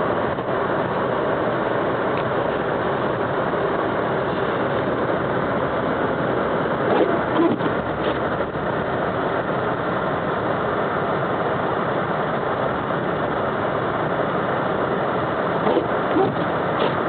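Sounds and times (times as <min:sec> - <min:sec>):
car running noise from inside: 0:00.0 - 0:17.0.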